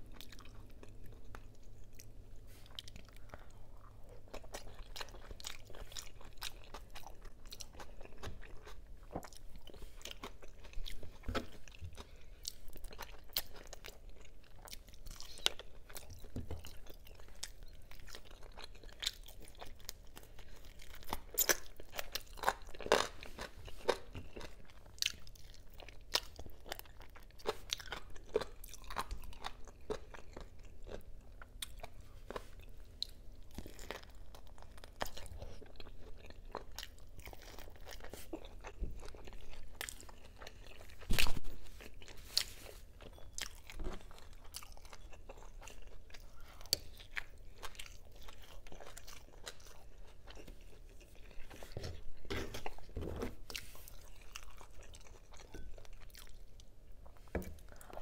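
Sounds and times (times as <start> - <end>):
person chewing: 0.0 - 58.0.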